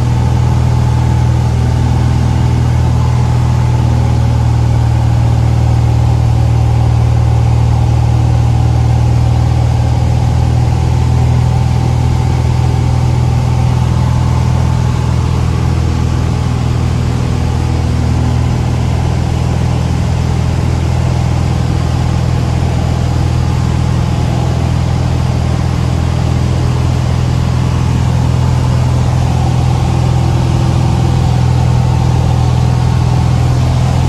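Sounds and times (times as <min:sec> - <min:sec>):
light aircraft engine in flight: 0:00.0 - 0:34.0.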